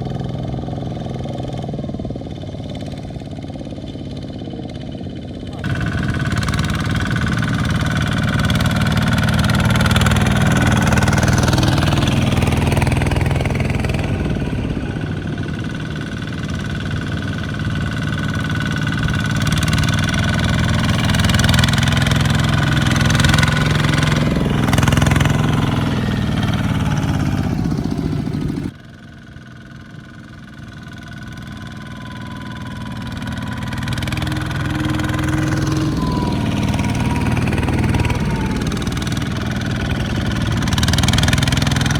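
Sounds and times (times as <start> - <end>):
tractor engines running: 0.0 - 41.9.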